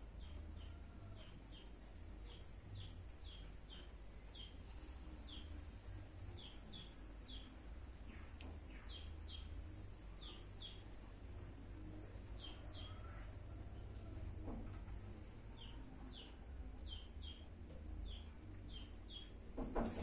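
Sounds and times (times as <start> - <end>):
faint bird chirping: 0.0 - 19.5.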